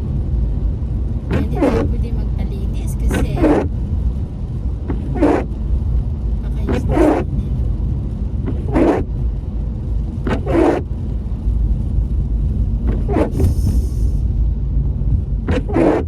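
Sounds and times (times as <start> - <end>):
car cabin engine rumble: 0.0 - 16.0
windscreen wipers swishing: 0.0 - 16.0.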